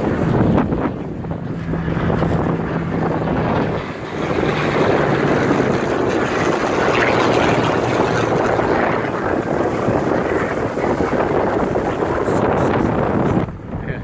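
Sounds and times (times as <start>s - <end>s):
piston aircraft engine droning: 0.0s - 14.0s
wind buffeting microphone: 0.0s - 14.0s.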